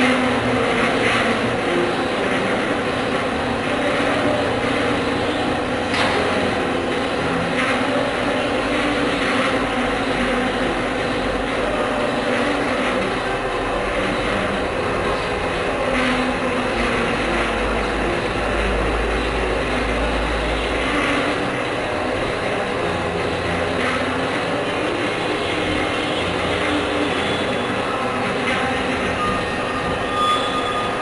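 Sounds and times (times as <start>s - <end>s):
machinery drone: 0.0s - 31.0s.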